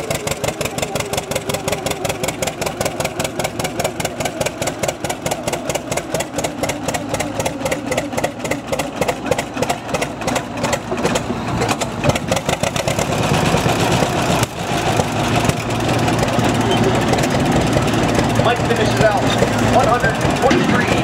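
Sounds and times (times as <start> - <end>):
tractor engine popping: 0.0 - 21.0.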